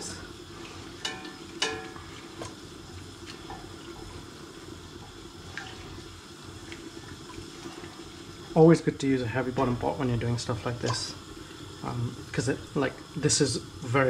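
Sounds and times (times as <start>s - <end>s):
roux bubbling and sizzling in pot: 0.0s - 14.0s.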